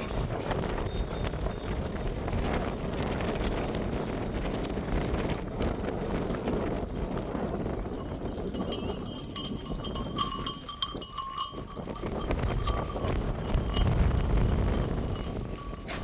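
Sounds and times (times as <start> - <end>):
livestock bell ringing: 0.0 - 16.0.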